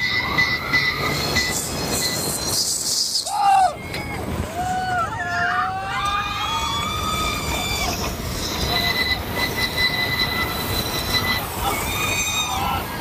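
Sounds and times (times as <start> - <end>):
ride wheels squealing on track: 0.0 - 13.0.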